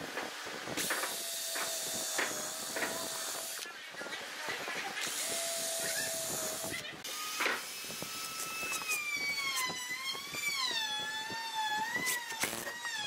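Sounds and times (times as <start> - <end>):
cordless drill whining: 0.8 - 3.7, 5.0 - 13.0.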